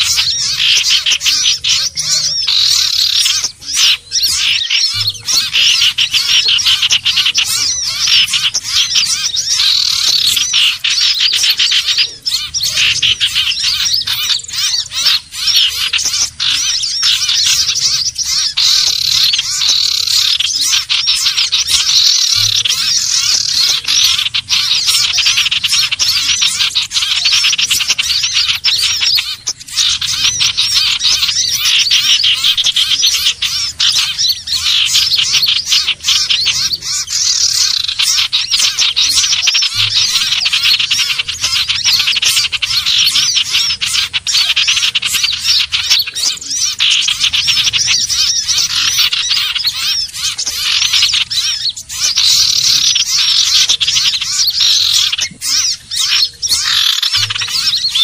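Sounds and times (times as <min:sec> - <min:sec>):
birds chirping and whistling: 0:00.0 - 0:58.0.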